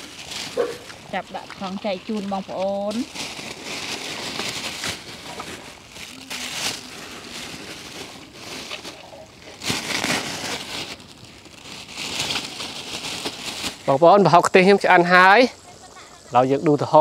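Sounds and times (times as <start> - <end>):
plastic bags rustling: 0.0 - 16.5.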